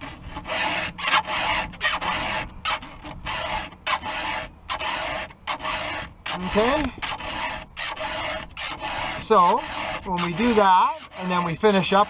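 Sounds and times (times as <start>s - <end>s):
file rasping on saw chain: 0.0s - 12.0s.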